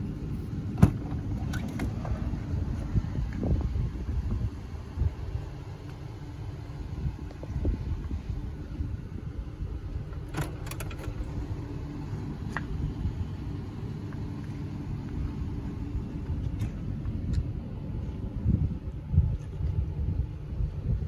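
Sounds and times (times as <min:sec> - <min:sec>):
wind rumble: 0:00.0 - 0:21.0.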